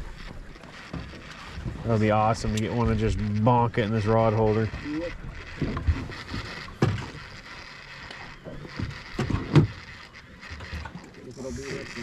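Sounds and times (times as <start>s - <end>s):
gear knocking on a boat: 0.0s - 12.0s
water noise: 0.0s - 12.0s
wind: 0.0s - 12.0s.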